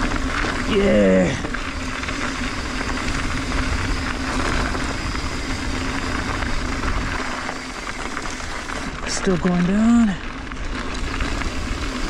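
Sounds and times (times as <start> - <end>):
bike tyres rumbling on dirt: 0.0 - 12.0
wind over microphone: 0.0 - 12.0.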